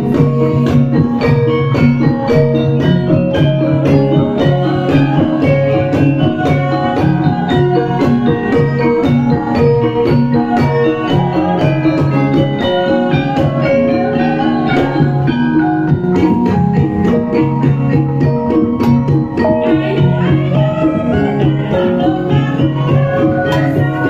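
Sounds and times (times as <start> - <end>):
gongs: 0.0 - 24.0
hand drumming: 0.0 - 24.0
metallophones struck in steady pulse: 0.0 - 24.0.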